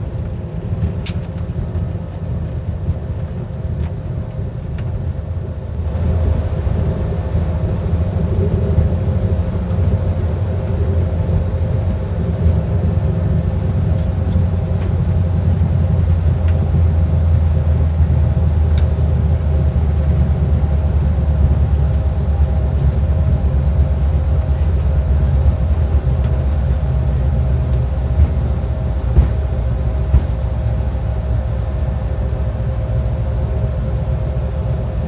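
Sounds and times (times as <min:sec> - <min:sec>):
aircraft wheels and engines rumbling: 0:00.0 - 0:35.0.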